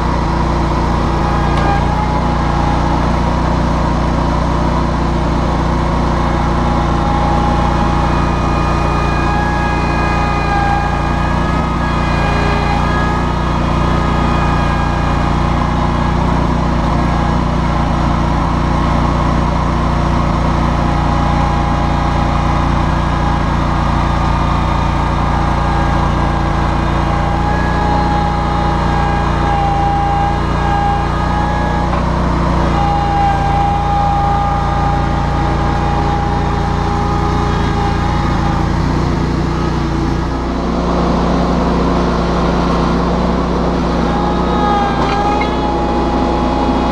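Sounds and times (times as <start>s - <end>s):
garden tractor engine running: 0.0s - 46.9s
high whine: 0.0s - 46.9s.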